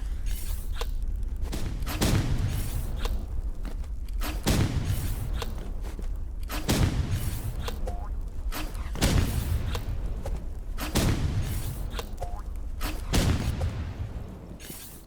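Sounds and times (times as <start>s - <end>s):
fireworks cracks: 0.0s - 15.0s
steady low rumble: 0.0s - 15.0s
fireworks booming: 1.1s - 15.0s.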